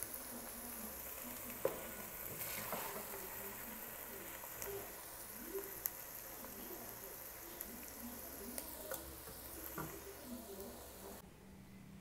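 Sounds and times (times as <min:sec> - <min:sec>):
pot sizzling on stove: 0:00.0 - 0:11.2.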